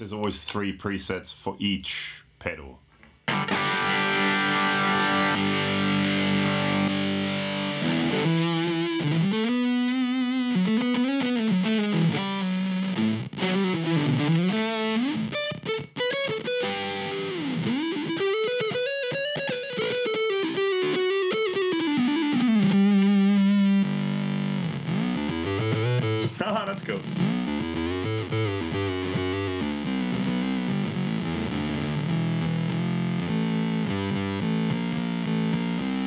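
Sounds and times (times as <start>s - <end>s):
distorted electric guitar lead: 3.3s - 36.0s.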